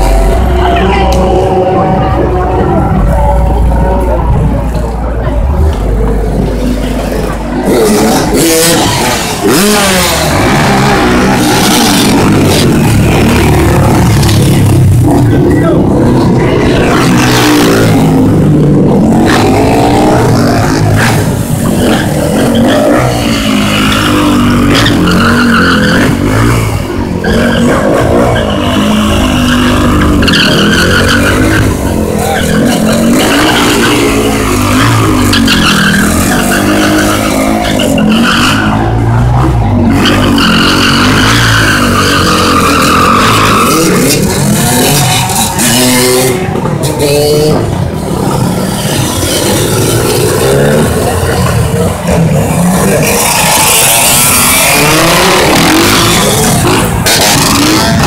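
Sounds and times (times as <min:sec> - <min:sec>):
tyre squealing: 0:05.3 - 0:58.0
dirt bike engine revving: 0:05.4 - 0:58.0.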